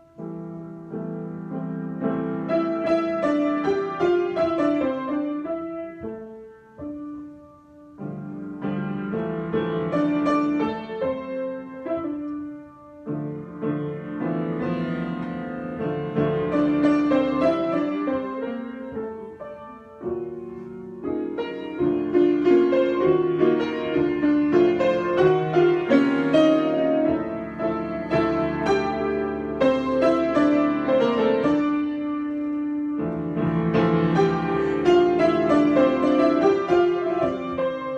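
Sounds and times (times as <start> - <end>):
solo piano: 0.0 - 37.9.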